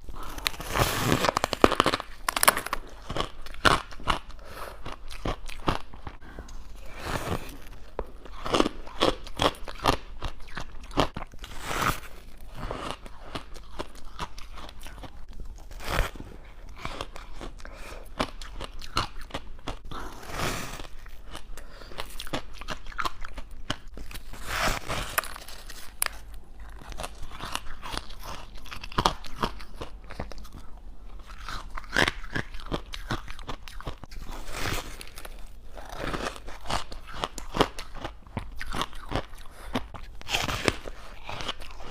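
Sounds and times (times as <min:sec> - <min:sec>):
person chewing crunchy ice: 0:00.0 - 0:41.9.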